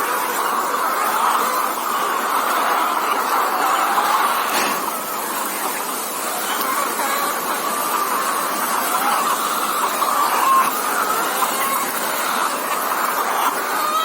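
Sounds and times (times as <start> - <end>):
hens clucking: 0.0 - 14.0
steady background noise: 0.0 - 14.0.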